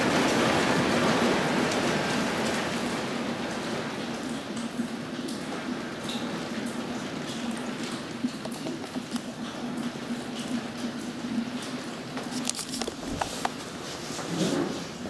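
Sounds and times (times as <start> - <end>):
heavy rain on building: 0.0 - 15.0.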